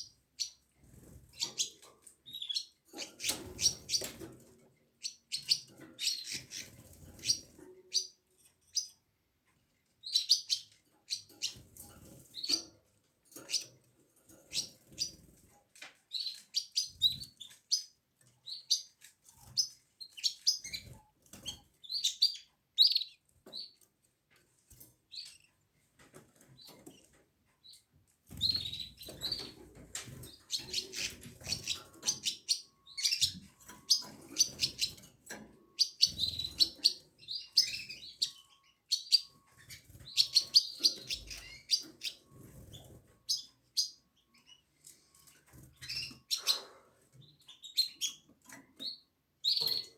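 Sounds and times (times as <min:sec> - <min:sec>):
canary chirping: 0:00.0 - 0:49.9.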